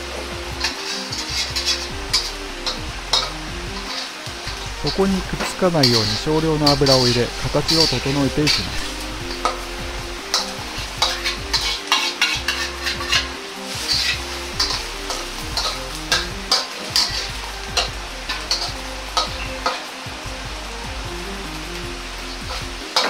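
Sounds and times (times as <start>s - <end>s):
omelette sizzling in oil: 0.0s - 23.0s
spatula scraping and tapping pan: 0.6s - 19.8s.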